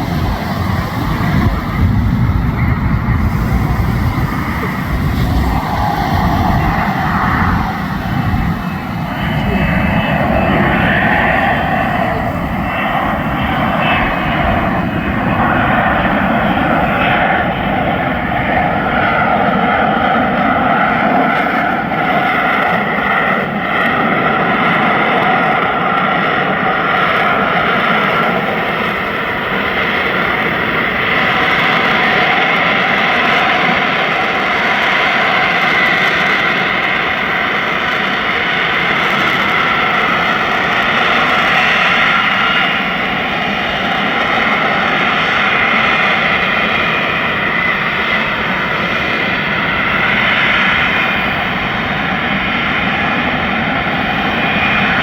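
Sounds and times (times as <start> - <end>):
jet engine roaring and whining: 0.0 - 55.0.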